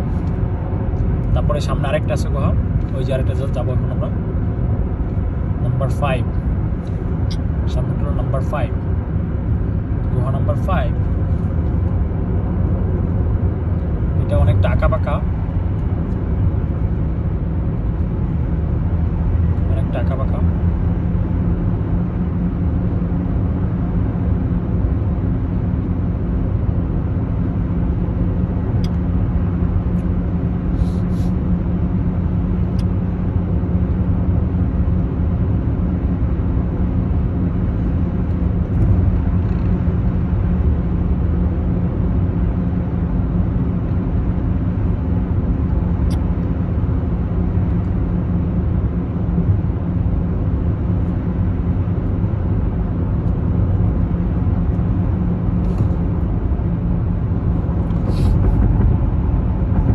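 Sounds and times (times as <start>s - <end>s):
car engine and tyre rumble: 0.0s - 59.9s
steady low hum: 0.0s - 59.9s.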